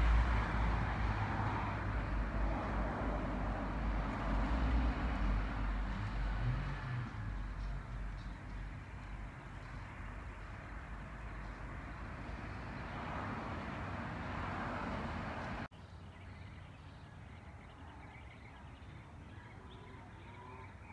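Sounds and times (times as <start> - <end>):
outdoor background noise: 0.0 - 20.9.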